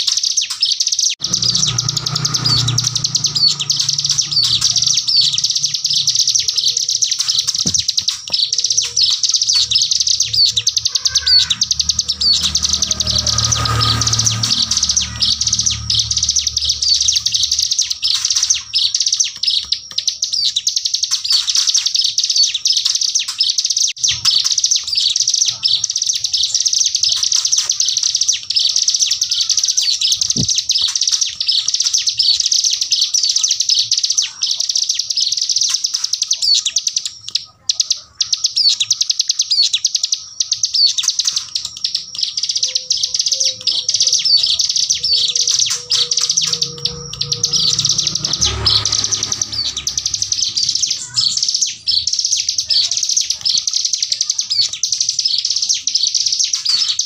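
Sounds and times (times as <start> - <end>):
bird chattering trill: 0.0 - 57.0.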